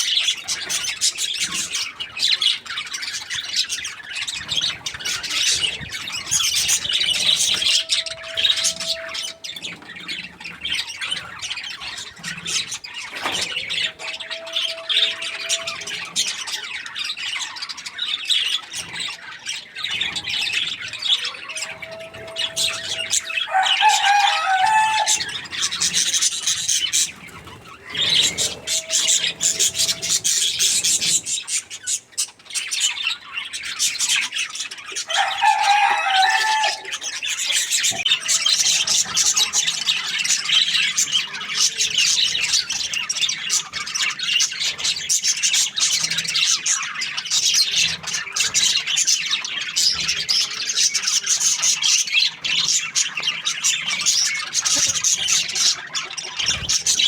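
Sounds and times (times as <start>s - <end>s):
budgies chirping and chattering: 0.0s - 57.0s.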